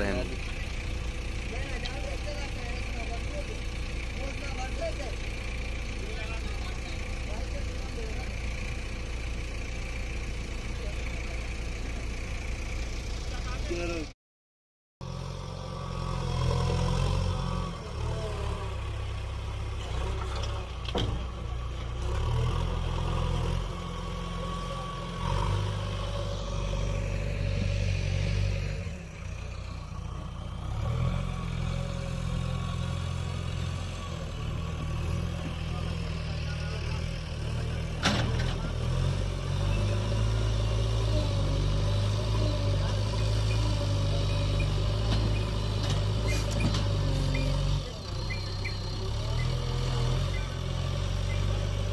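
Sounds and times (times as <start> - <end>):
diesel machinery engine running: 0.0 - 14.1, 15.0 - 51.9.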